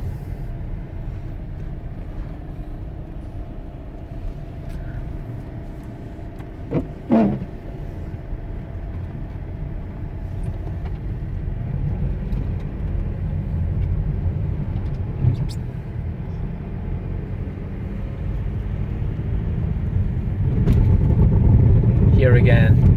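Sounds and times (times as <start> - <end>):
engine and tyres rumbling: 0.0 - 22.9.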